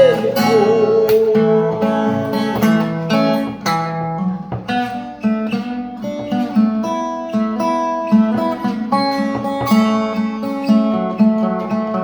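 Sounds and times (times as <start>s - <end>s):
acoustic guitar playing chords: 0.0s - 12.0s.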